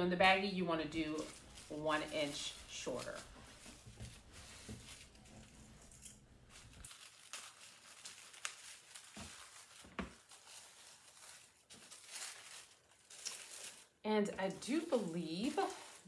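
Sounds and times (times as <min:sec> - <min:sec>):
tissue paper rustling: 0:00.8 - 0:16.0.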